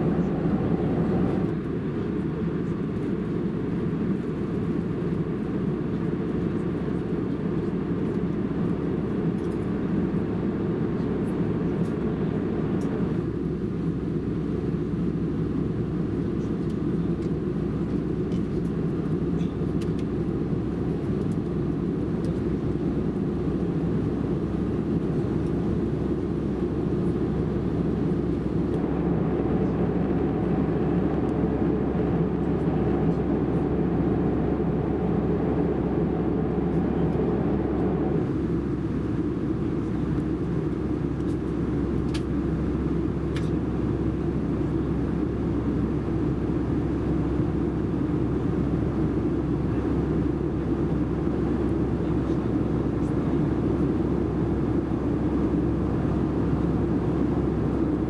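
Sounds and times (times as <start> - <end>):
airliner cabin noise: 0.0 - 58.0.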